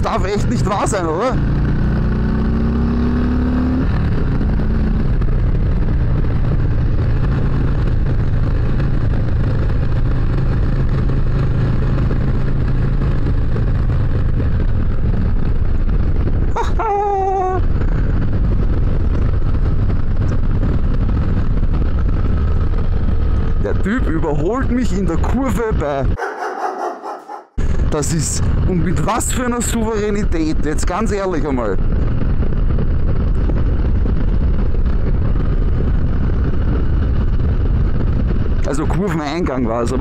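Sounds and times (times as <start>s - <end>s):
wind noise: 0.0s - 29.0s, 29.6s - 40.0s.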